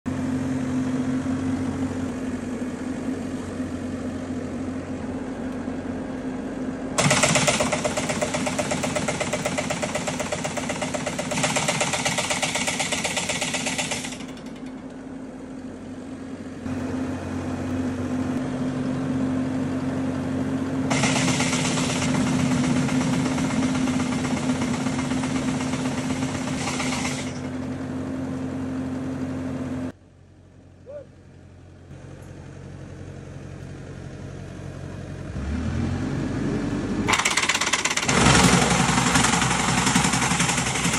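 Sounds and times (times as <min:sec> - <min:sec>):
tractor engine running: 0:00.1 - 0:40.9.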